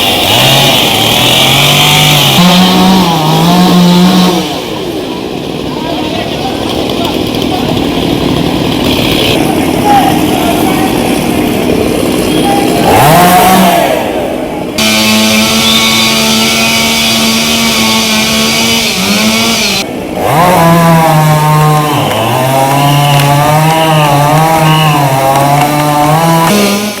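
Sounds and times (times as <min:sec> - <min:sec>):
chainsaw cutting a tree: 0:00.0 - 0:27.0.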